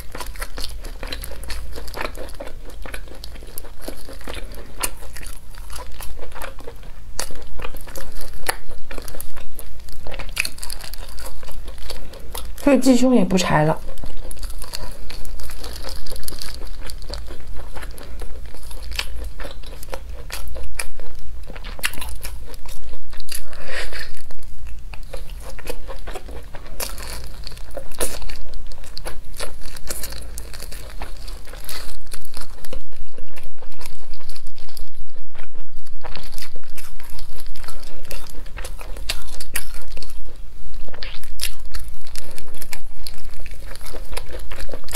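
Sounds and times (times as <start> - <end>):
crunchy biting and chewing: 0.0 - 12.8, 13.8 - 44.9.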